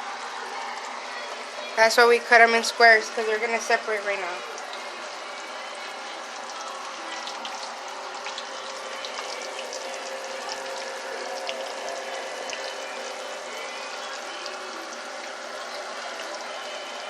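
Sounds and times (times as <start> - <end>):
chicken deep-frying in hot oil: 0.0 - 17.0.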